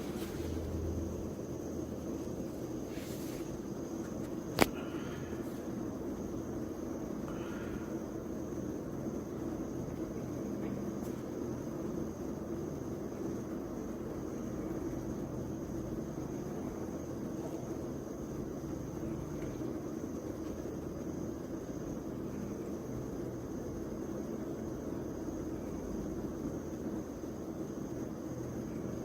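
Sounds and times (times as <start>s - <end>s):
background hum and hiss: 0.0s - 29.0s
faint high-pitched whine: 0.0s - 29.0s.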